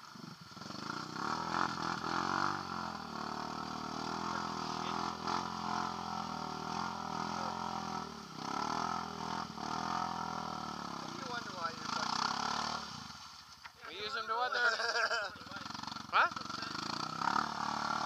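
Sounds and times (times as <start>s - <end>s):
quad engine revving hard: 0.2s - 13.2s, 15.4s - 18.0s.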